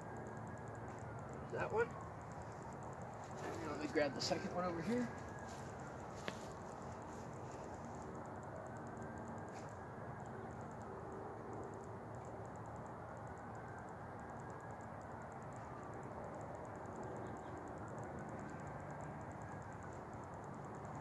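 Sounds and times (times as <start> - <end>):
distant road traffic hum: 0.0 - 21.0
rapid insect ticking: 0.0 - 21.0.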